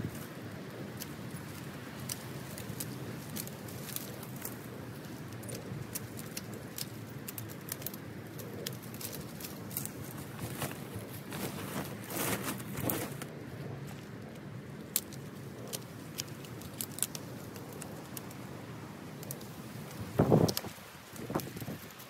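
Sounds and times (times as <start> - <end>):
foliage rustling and tearing: 0.0 - 22.0.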